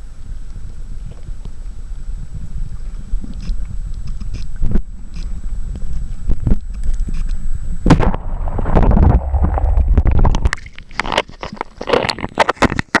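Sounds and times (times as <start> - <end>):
wind buffeting microphone: 0.6 - 11.5.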